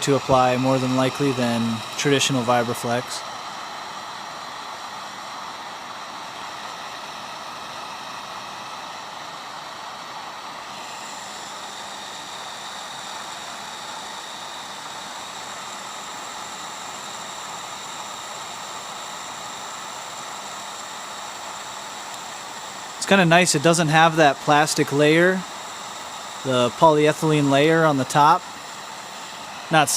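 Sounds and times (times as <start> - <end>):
heat gun fan whining: 0.0 - 29.9.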